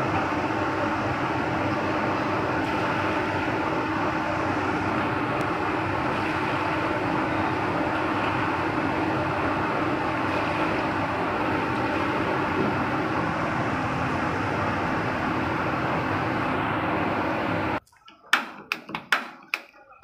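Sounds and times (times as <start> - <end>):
gas stove burner roaring: 0.0 - 17.8.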